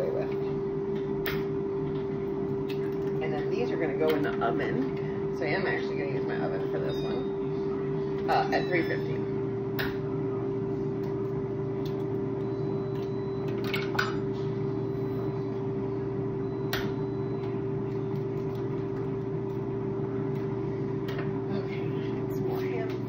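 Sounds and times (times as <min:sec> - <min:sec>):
kitchen appliance humming: 0:00.0 - 0:23.0.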